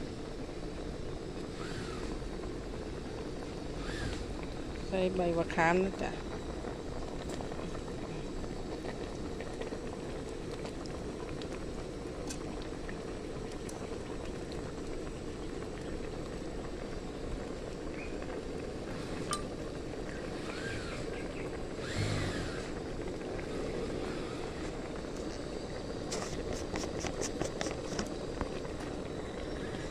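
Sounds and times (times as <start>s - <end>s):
pot boiling with bubbling hiss: 0.0s - 29.9s.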